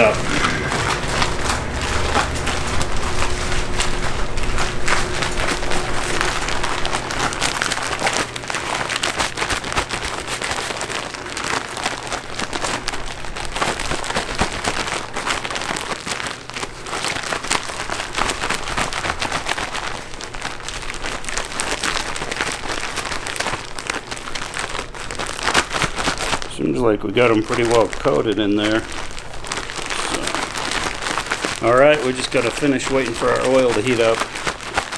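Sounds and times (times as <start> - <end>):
plastic bag shaking with breading: 0.0 - 34.9.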